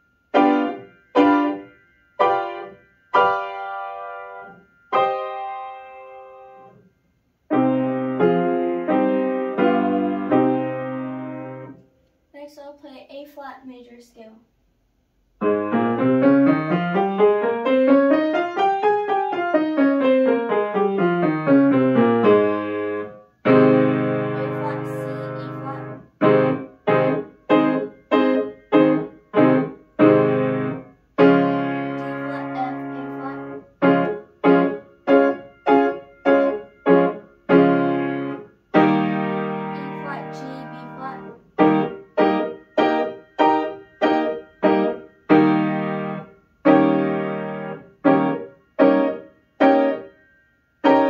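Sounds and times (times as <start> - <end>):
piano playing scales and chords: 0.0 - 6.9, 7.5 - 11.8, 15.4 - 51.0.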